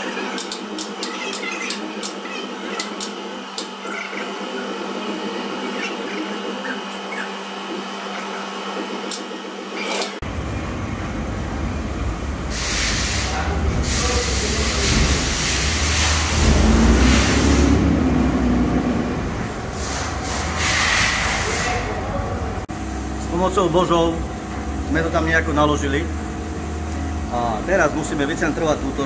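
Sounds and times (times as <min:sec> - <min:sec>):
low mechanical rumble: 0:04.4 - 0:29.0.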